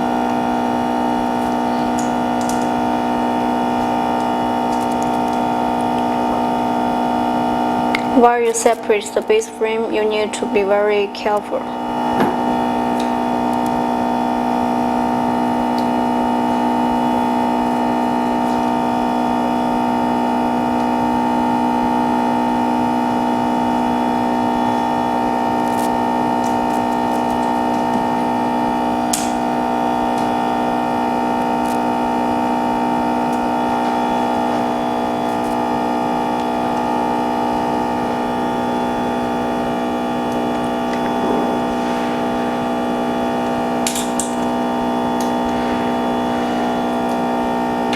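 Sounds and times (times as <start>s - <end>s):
steady drone of held tones: 0.0s - 47.9s.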